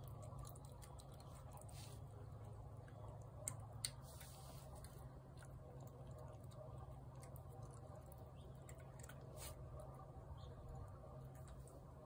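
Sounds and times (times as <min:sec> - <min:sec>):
cat eating wet food: 0:00.0 - 0:12.0
low steady hum: 0:00.0 - 0:12.0.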